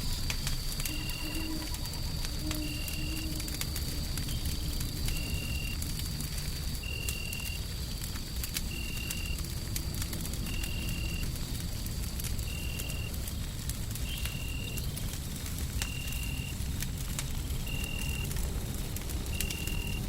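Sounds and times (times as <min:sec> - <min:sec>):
low rumble of white noise: 0:00.0 - 0:20.0
wood fire crackling and popping: 0:00.0 - 0:20.0.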